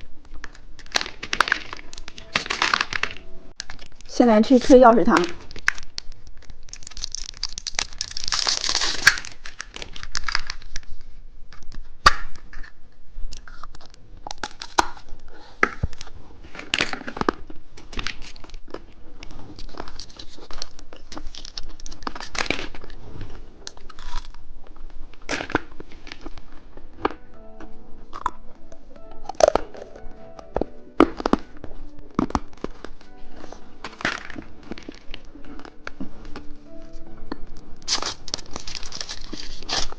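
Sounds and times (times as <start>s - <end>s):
plastic wrapper tearing and crinkling: 0.0s - 15.2s, 15.9s - 27.2s, 31.0s - 36.8s, 37.6s - 39.9s.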